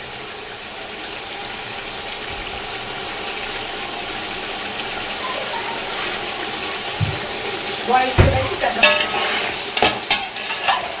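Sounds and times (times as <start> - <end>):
chicken sizzling in hot ghee: 0.0 - 11.0.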